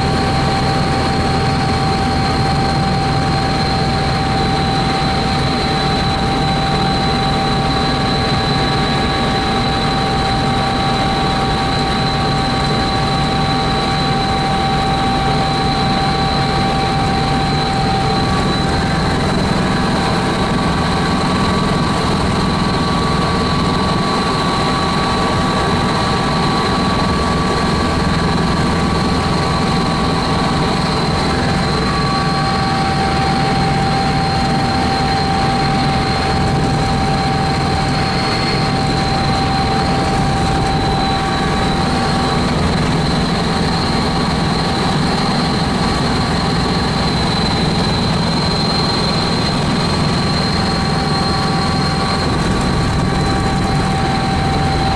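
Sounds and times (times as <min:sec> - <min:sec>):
constant high whine: 0:00.0 - 0:54.9
helicopter engine and rotor noise: 0:00.0 - 0:54.9.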